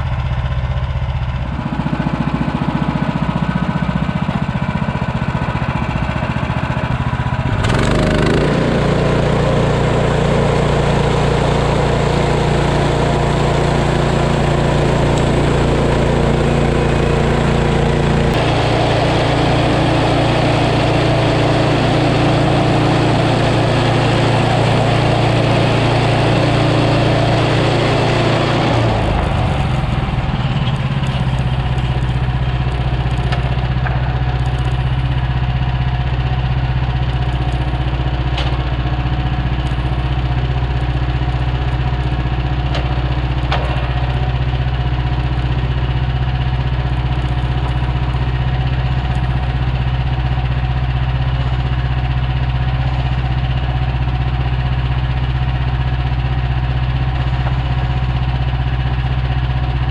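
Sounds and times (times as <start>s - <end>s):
gas engine running: 0.0s - 59.9s.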